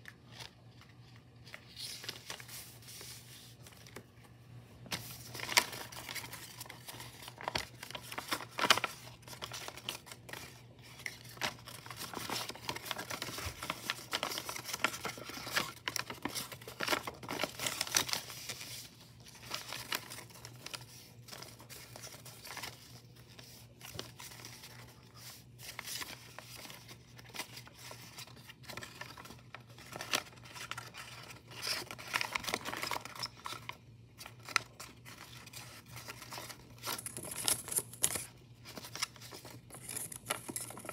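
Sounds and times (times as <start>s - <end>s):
paper rustling and crinkling: 0.0s - 40.9s.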